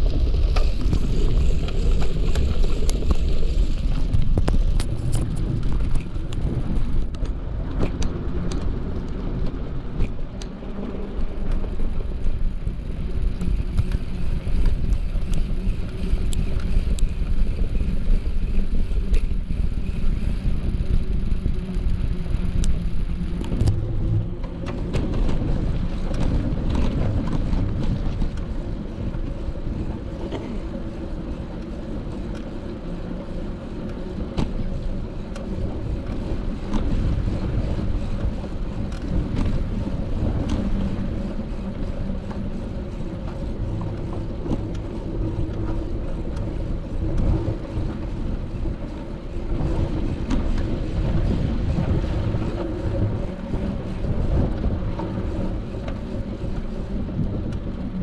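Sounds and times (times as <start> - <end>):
bicycle tyres rolling: 0.0 - 58.0
wind on microphone: 0.0 - 58.0.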